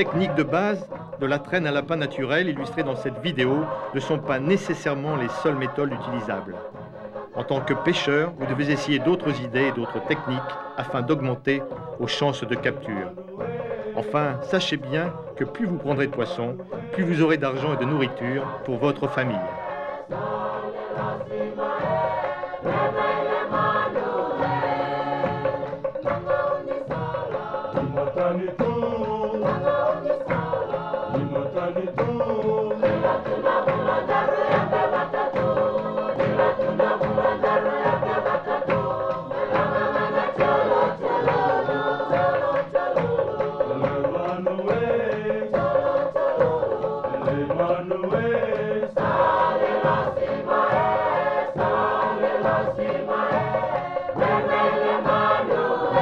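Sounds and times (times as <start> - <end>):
voices singing over a beat: 0.0 - 56.0.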